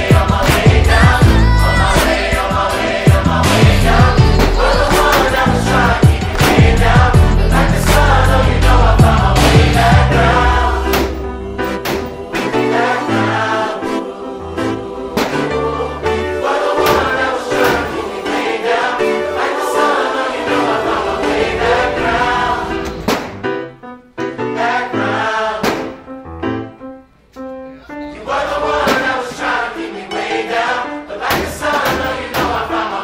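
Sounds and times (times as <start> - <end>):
choir singing: 0.0 - 23.6, 24.3 - 26.1, 27.8 - 33.0.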